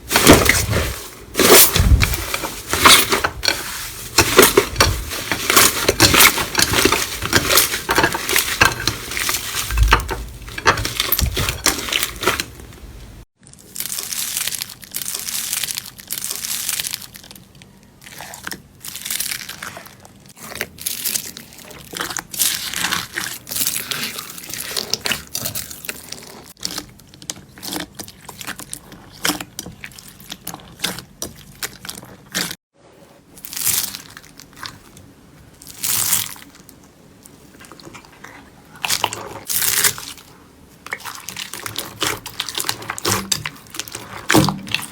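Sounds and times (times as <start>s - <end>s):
slime crackling and squelching: 0.0s - 32.6s, 33.4s - 44.9s.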